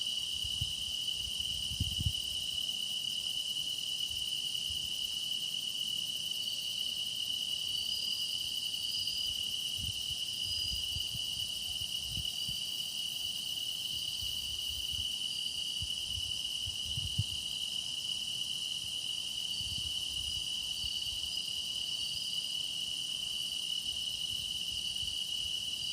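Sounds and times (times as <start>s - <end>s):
faint higher insect calls: 0.0s - 25.9s
insects trilling in chorus: 0.0s - 25.9s.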